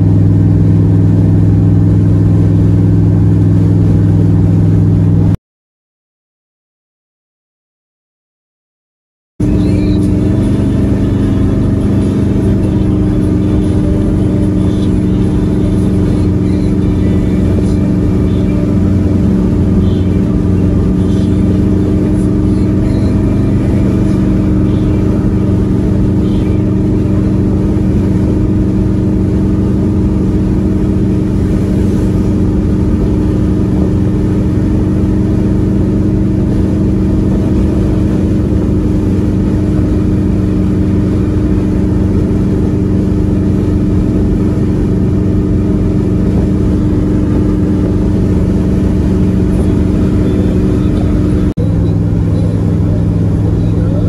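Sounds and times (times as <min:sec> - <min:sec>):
car engine and exhaust droning: 0:00.0 - 0:05.4, 0:09.4 - 0:54.0
road rumble: 0:00.0 - 0:05.4, 0:09.4 - 0:54.0.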